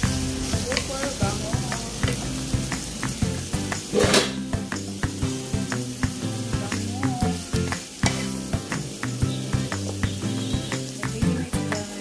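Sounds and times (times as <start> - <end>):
background music with steady beat: 0.0 - 12.0
food sizzling in hot oil: 0.0 - 12.0.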